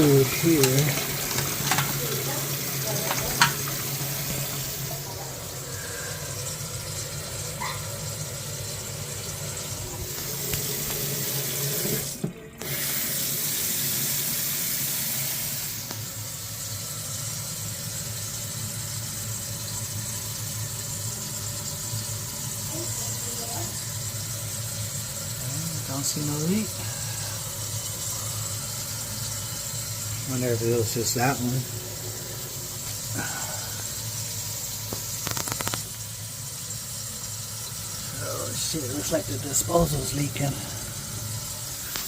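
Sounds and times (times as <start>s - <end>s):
faucet running into sink: 0.0s - 42.0s.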